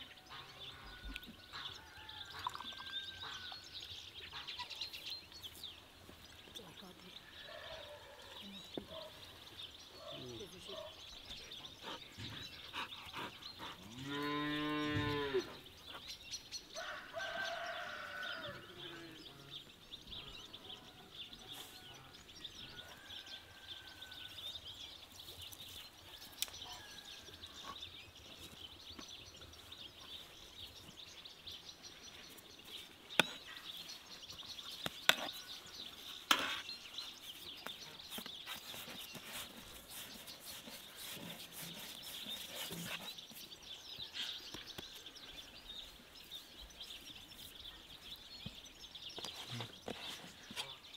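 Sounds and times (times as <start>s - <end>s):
faint bird chatter: 0.0s - 50.9s.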